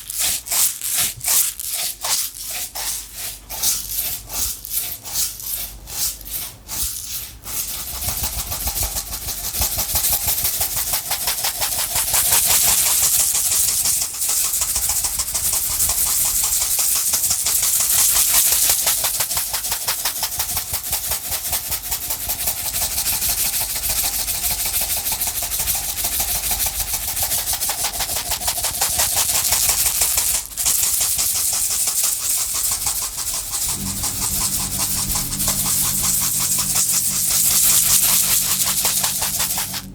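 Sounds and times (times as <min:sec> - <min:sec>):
container of objects rattling: 0:00.0 - 0:20.5, 0:24.1 - 0:39.9.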